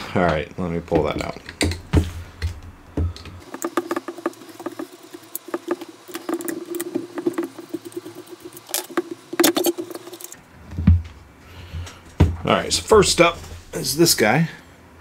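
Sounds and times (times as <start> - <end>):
steady hum: 1.4 - 15.0.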